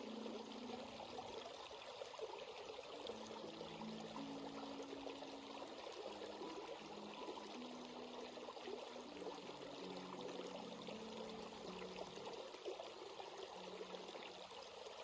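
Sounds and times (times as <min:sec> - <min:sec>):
stream water babbling over rocks: 0:00.0 - 0:15.0.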